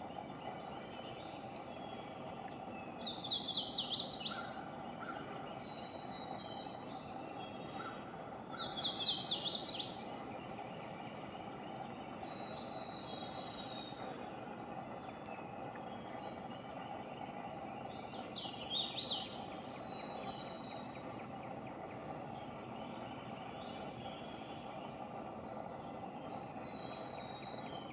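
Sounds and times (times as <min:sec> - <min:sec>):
steady background hum: 0:00.0 - 0:27.9
bird whistled song: 0:02.8 - 0:14.3, 0:15.1 - 0:27.9.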